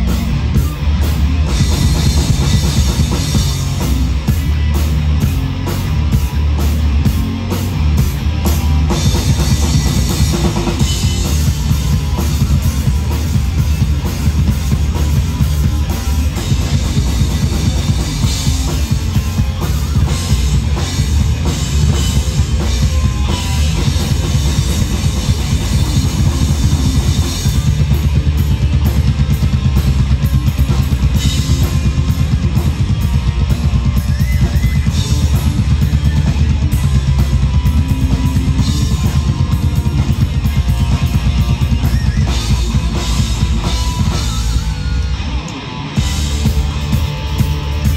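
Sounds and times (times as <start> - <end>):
drum kit beat: 0.0 - 47.9
electric guitars: 0.0 - 47.9
live rock band: 0.0 - 47.9.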